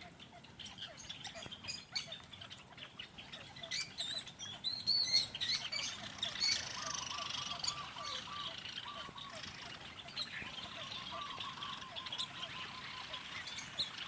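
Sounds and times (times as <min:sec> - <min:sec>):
evenly repeated bird notes: 0:00.0 - 0:14.0
small birds chirping: 0:00.0 - 0:14.0
warbling high bird calls: 0:00.0 - 0:14.0.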